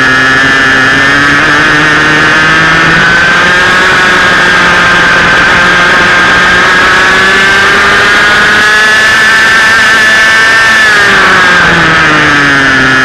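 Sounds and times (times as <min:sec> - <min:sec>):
kart engine at high revs: 0:00.0 - 0:13.0.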